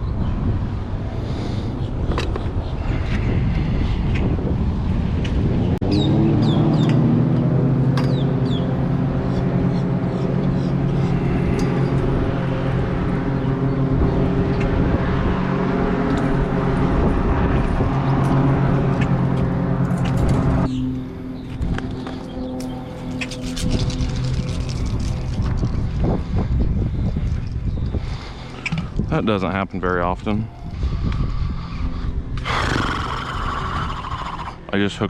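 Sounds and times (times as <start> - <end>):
engine running: 0.4 - 35.0.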